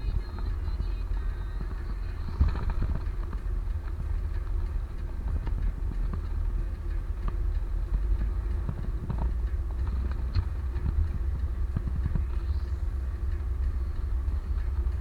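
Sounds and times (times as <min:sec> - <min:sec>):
moving vehicle rumble: 0:00.0 - 0:15.0.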